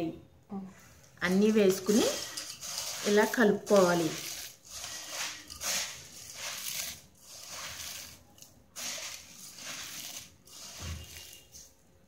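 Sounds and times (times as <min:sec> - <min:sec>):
puffed rice rustling in bowl: 0:01.2 - 0:11.7.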